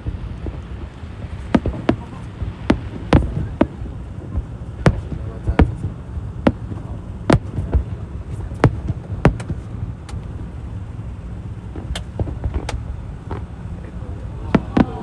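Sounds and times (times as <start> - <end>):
fireworks bangs: 0.0 - 15.0
steady low rumble: 0.0 - 15.0.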